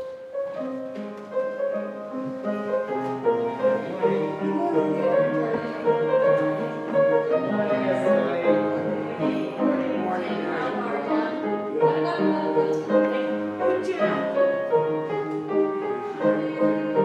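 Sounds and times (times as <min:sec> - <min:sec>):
slow instrumental piano music: 0:00.0 - 0:17.0.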